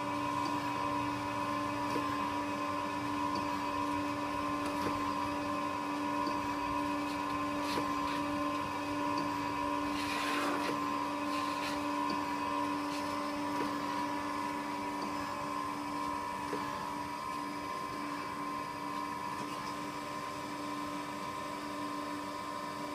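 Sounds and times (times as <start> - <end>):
grinder humming and whining: 0.0 - 22.9.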